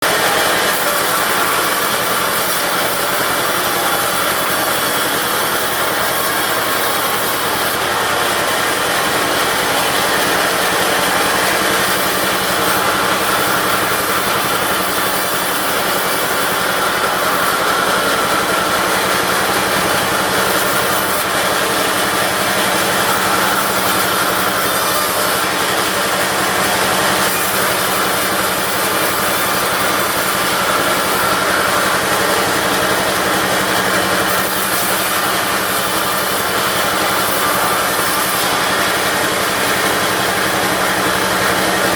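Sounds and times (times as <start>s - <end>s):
bandsaw sawing wood: 0.0s - 41.9s
diesel engine running: 0.0s - 41.9s.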